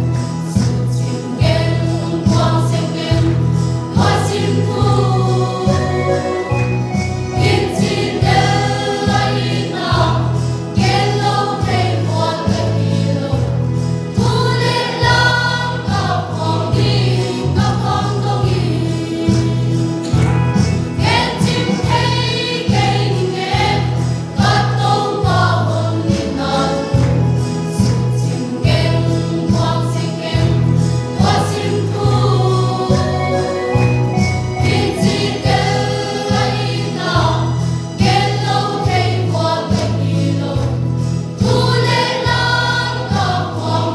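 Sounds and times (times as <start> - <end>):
mixed choir singing: 0.0 - 43.9.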